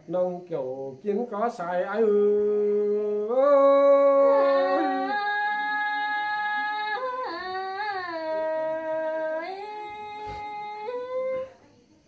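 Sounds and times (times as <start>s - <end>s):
person singing unaccompanied: 0.9s - 12.0s.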